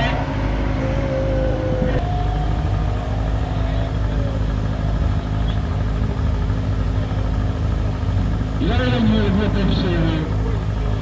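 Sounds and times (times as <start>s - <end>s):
higher engine note: 0.0s - 11.0s
race car engine idling: 0.0s - 11.0s.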